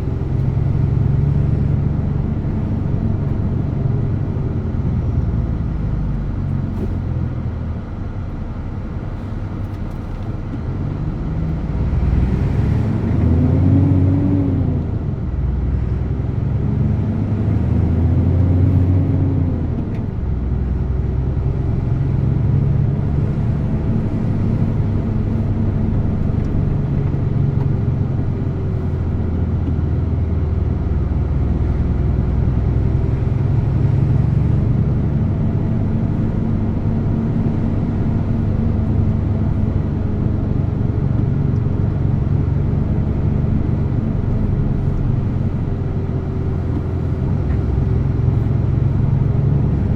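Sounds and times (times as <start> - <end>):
diesel truck engine revving: 0.0 - 9.7, 10.4 - 49.9.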